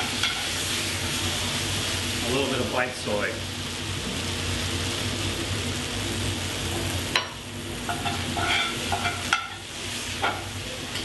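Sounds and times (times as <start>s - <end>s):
grains sizzling in a pan: 0.0s - 11.0s.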